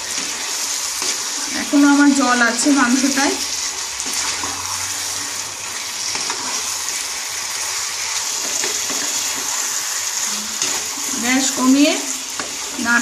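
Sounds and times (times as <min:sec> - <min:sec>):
wooden spatula stirring: 0:00.0 - 0:11.5
meat sizzling in a pan: 0:00.0 - 0:13.0.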